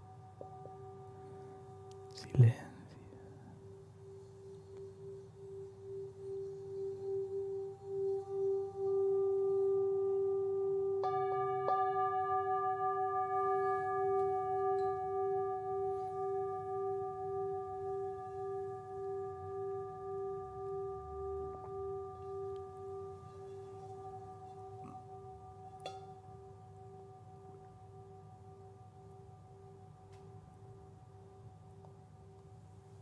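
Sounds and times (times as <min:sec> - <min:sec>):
singing bowl ringing: 0:00.0 - 0:02.1, 0:03.6 - 0:32.7
singing bowl struck: 0:00.0 - 0:02.1, 0:04.8 - 0:30.4.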